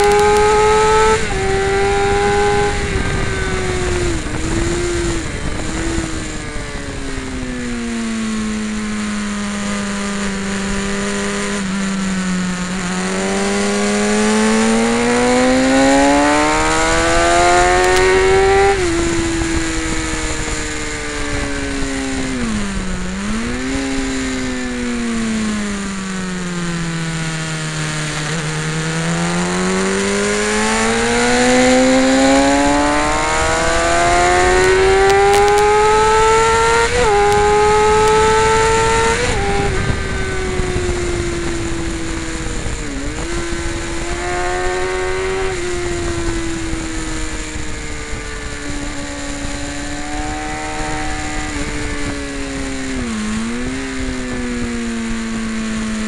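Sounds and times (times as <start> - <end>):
wind rush: 0.0 - 26.9, 27.6 - 56.0
motorcycle engine revving: 0.0 - 56.0.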